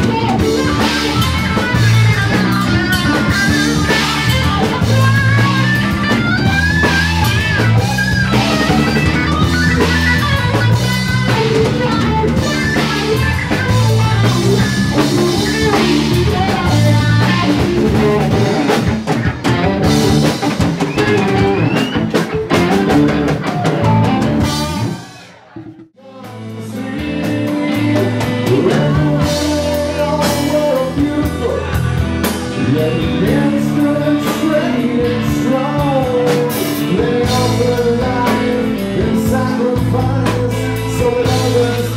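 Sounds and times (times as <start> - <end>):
drum kit: 0.0 - 41.9
electric guitar: 0.0 - 41.9.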